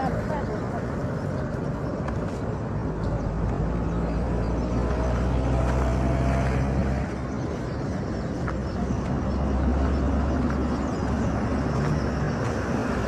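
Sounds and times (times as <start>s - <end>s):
motor vehicle engine running: 0.0s - 13.0s.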